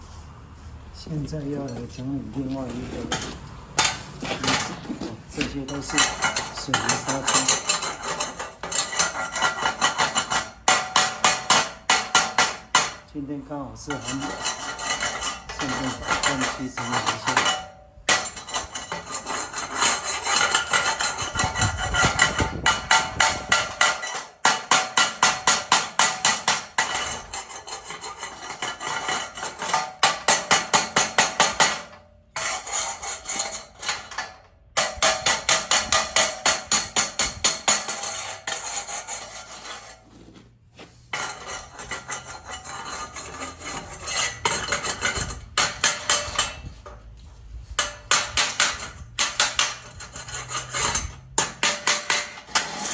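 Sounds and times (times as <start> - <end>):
metal tool scraping and tapping: 1.6 - 52.9.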